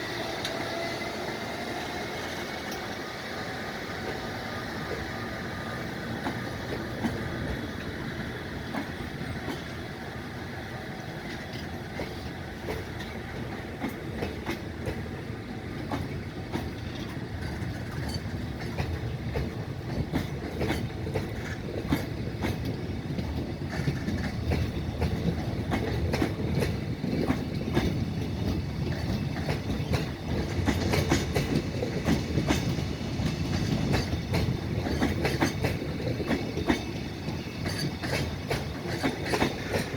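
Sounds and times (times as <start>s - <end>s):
freight train rumble: 0.0s - 39.9s
steel wheels clicking over rail joints: 6.0s - 9.9s, 11.0s - 39.9s.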